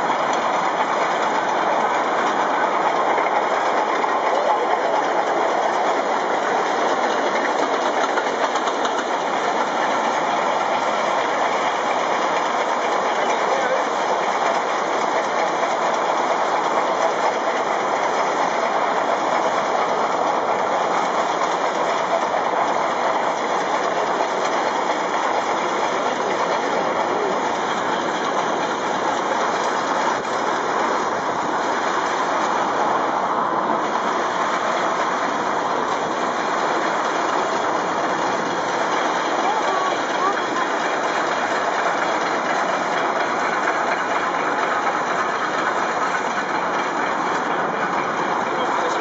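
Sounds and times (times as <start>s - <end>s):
road noise: 0.0s - 49.0s
steam locomotive rushing: 0.0s - 49.0s
wind: 0.0s - 49.0s.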